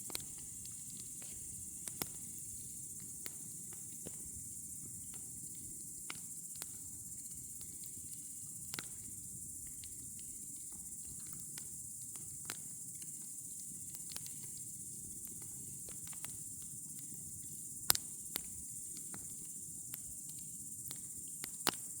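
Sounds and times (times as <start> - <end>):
campfire crackling and popping: 0.0 - 14.6, 15.2 - 21.9.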